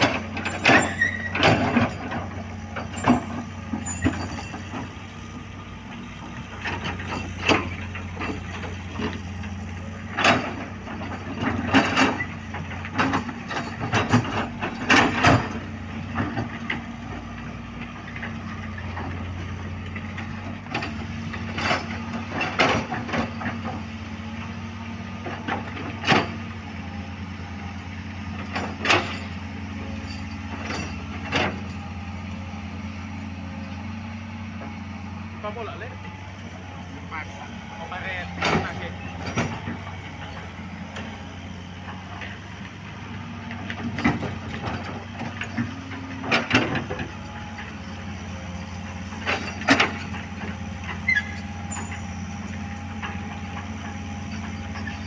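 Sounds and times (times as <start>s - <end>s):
metal clanks and knocks: 0.0s - 23.9s, 25.1s - 32.6s, 37.1s - 55.0s
diesel machinery running: 0.0s - 55.0s.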